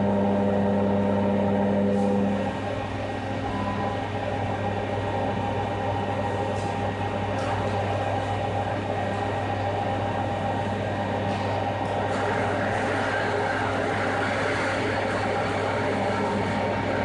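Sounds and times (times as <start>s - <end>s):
motor running with mechanical hum: 0.0s - 17.0s.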